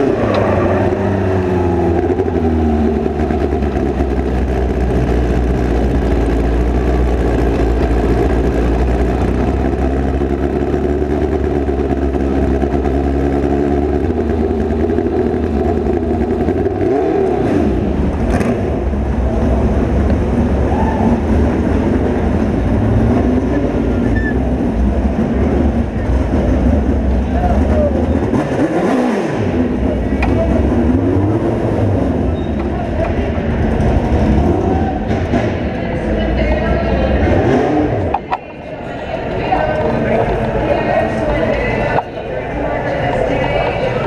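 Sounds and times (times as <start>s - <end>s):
race car engine low revs: 0.0s - 38.3s.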